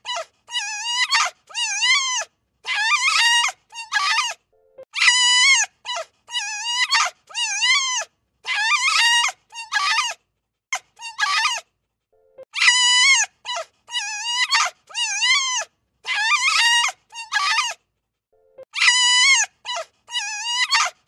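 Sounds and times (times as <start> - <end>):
wolf yipping and howling: 0.0 - 4.4, 5.0 - 10.2, 10.8 - 11.6, 12.5 - 17.8, 18.6 - 21.0.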